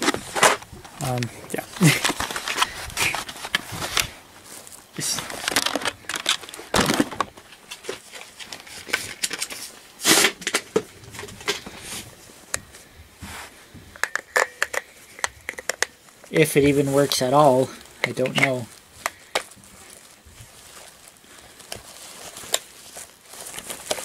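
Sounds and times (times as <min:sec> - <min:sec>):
plastic packaging crinkling: 0:00.0 - 0:12.6, 0:14.0 - 0:24.0.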